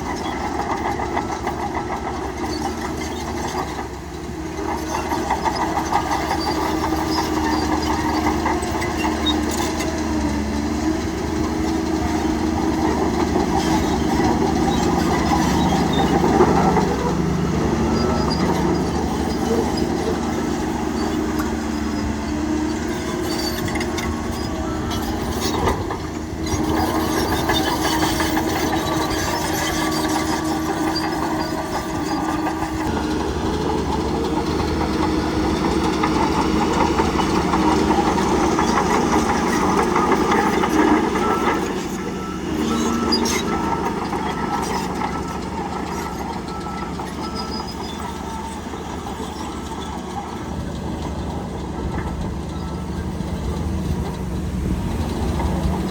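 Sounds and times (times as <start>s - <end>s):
bulldozer diesel engine labouring: 0.0s - 55.9s
metallic clatter of steel tracks: 0.0s - 55.9s.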